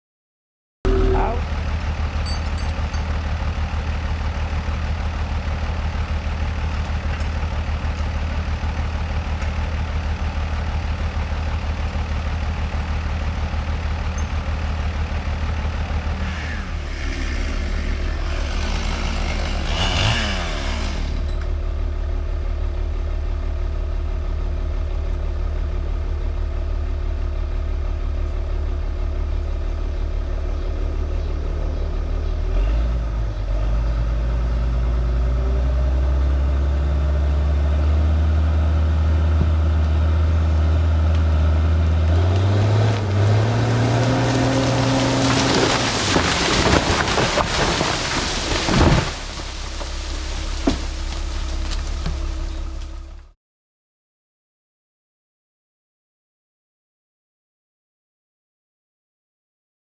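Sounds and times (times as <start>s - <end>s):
large machinery engine running: 0.9s - 53.3s.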